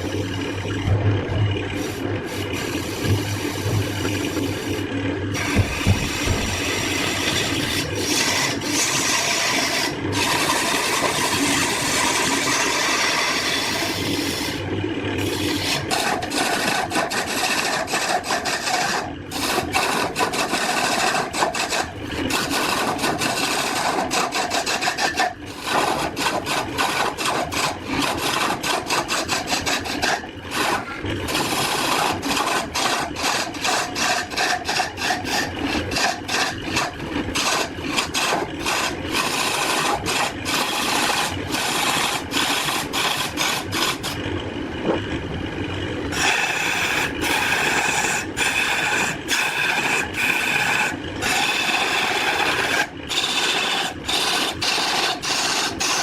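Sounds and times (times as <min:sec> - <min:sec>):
hand tool scraping wood: 0:01.7 - 0:14.6, 0:15.2 - 0:44.2, 0:46.1 - 0:56.0.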